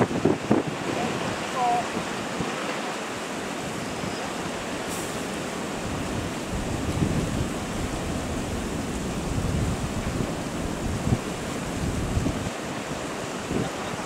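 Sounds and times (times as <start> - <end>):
wind buffeting microphone: 0.0 - 2.7, 3.3 - 14.0.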